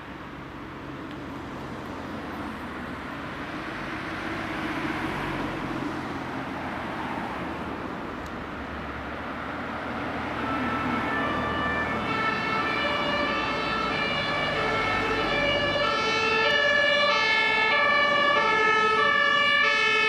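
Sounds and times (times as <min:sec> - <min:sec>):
vehicle passing: 0:00.8 - 0:20.0.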